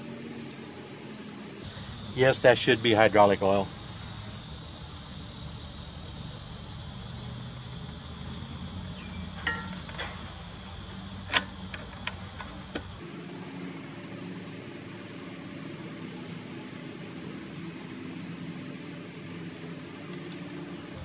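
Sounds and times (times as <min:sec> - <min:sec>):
high hiss: 0:00.0 - 0:11.1, 0:13.0 - 0:21.0.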